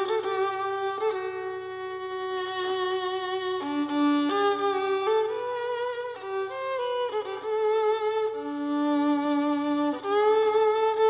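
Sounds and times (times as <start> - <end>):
solo violin slow melody: 0.0 - 11.0.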